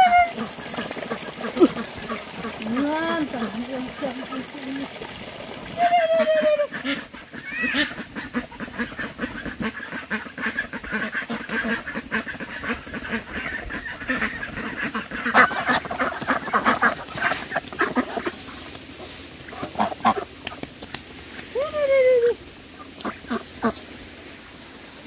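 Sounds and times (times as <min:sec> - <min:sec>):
ducks quacking: 0:00.0 - 0:04.8, 0:05.8 - 0:20.6, 0:22.7 - 0:23.9.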